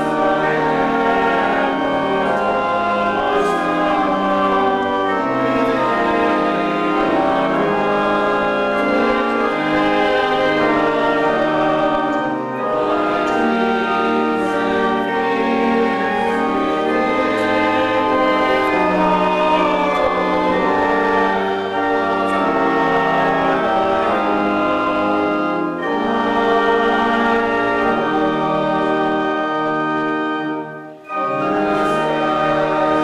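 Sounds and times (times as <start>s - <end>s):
choir singing a hymn: 0.0s - 33.0s
organ: 0.0s - 33.0s.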